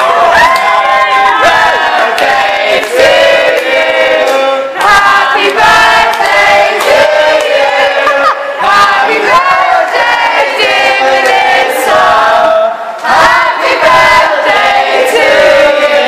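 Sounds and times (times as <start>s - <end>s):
group of people singing: 0.0s - 16.0s.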